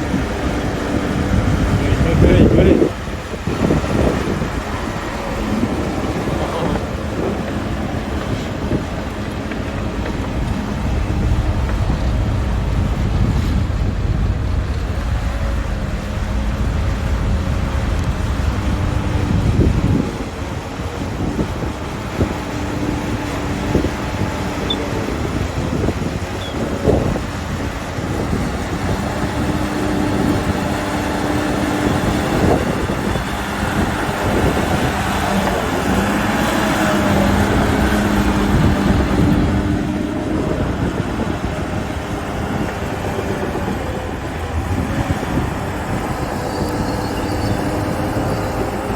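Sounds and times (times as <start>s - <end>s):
bulldozer diesel engine rumbling: 0.0s - 48.9s
faint steady whine: 0.0s - 48.9s
wind buffeting microphone: 0.0s - 48.9s.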